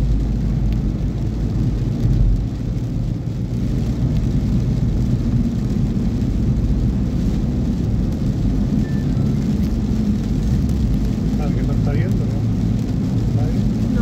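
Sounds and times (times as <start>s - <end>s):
car engine rumble: 0.0s - 14.0s
tyres on wet asphalt: 0.0s - 14.0s.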